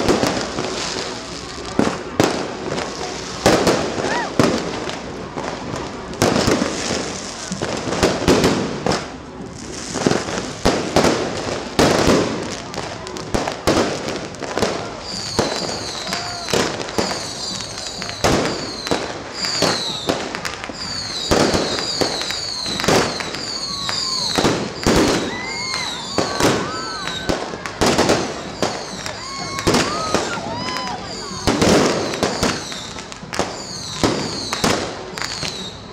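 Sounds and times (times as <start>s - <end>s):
falling whistles of fireworks: 0.0s - 35.9s
fireworks bangs: 0.0s - 35.9s
rising whistles of fireworks: 0.0s - 35.9s.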